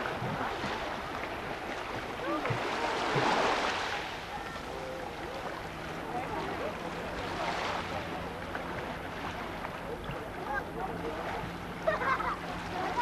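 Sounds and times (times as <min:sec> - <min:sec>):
water sloshing around waders: 0:00.0 - 0:13.0
distant voices and children's calls: 0:02.0 - 0:13.0.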